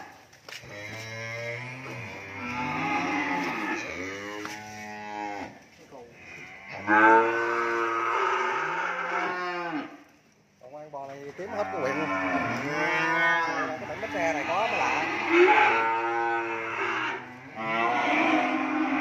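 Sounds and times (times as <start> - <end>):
cattle mooing: 0.6 - 5.6, 6.2 - 10.0, 11.4 - 19.0.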